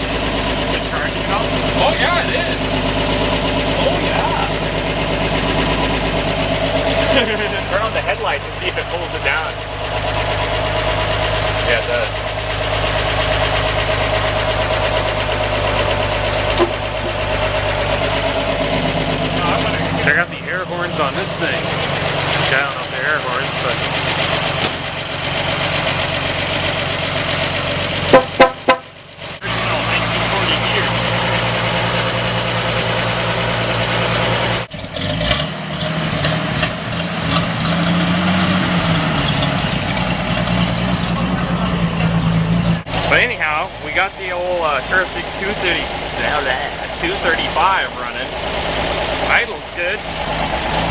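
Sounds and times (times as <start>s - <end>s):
truck engine idling: 0.0s - 50.9s.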